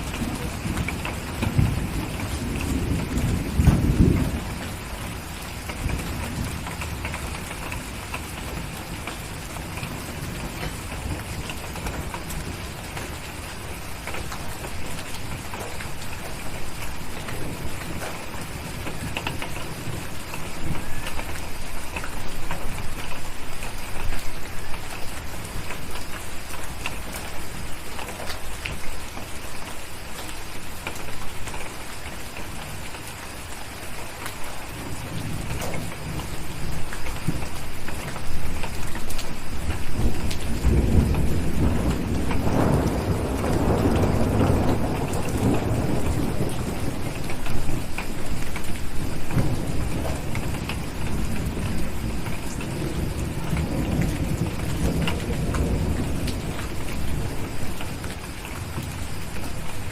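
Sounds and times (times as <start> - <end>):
thunder rumbling: 0.0 - 27.5, 34.5 - 59.9
steady rain: 0.0 - 59.9.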